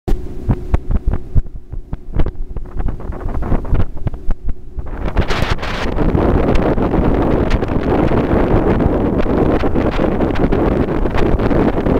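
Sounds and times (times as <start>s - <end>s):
wind buffeting microphone: 0.1s - 11.9s.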